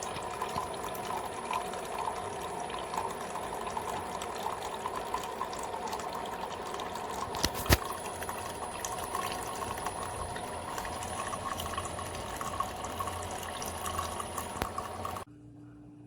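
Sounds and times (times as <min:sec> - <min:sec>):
coffee maker water trickling: 0:00.0 - 0:15.3.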